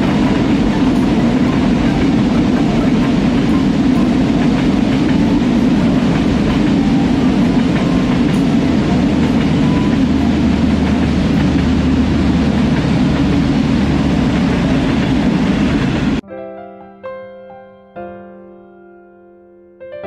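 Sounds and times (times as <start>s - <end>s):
train wheels on rails: 0.0s - 16.2s.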